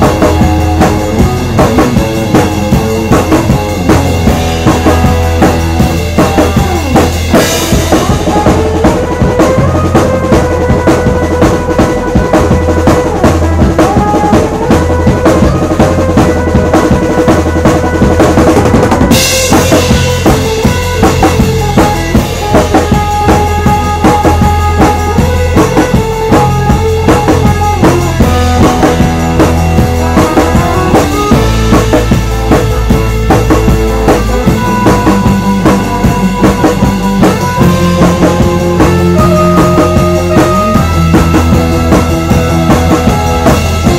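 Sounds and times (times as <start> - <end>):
cymbals: 0.0 - 43.9
rock band playing: 0.0 - 43.9.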